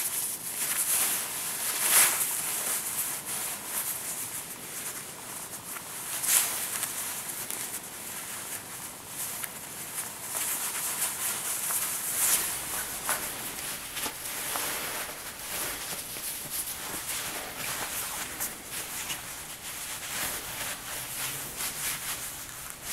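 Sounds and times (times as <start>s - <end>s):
fabric rustling and swishing: 0.0s - 22.9s.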